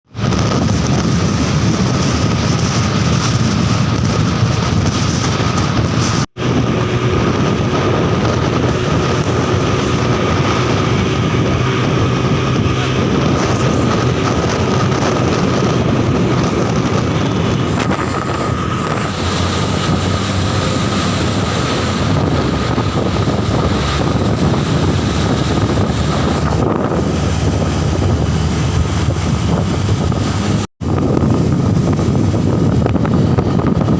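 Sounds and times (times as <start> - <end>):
tyre and road noise: 0.0 - 33.9
truck engines running: 0.1 - 33.9.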